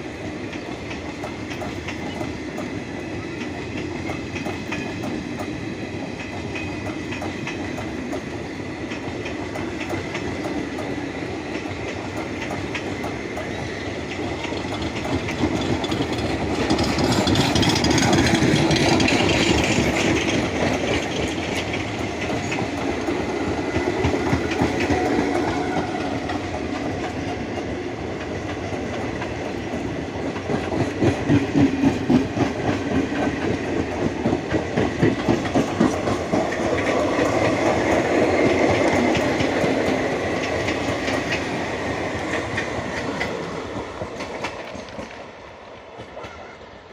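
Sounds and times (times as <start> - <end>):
train wheels clattering over rail joints: 0.2 - 46.5.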